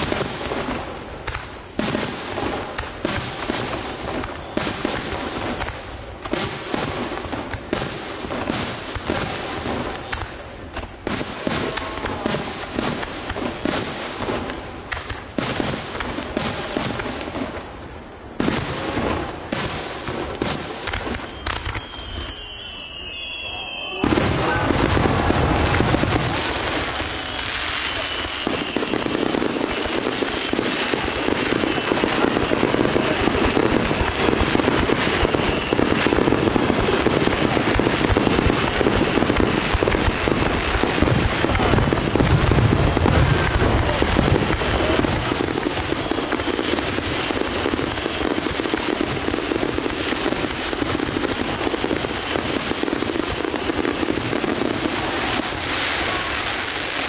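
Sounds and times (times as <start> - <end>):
fireworks booms: 0.0 - 57.0
fireworks bursting: 0.0 - 57.0
fireworks crackling: 0.0 - 57.0.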